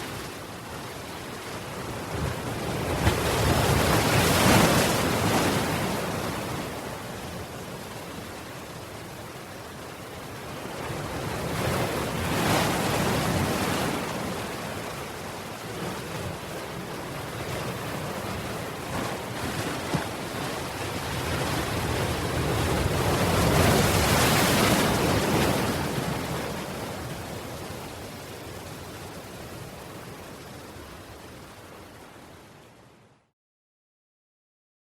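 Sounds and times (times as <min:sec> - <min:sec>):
sea waves surging: 0:00.0 - 0:32.8.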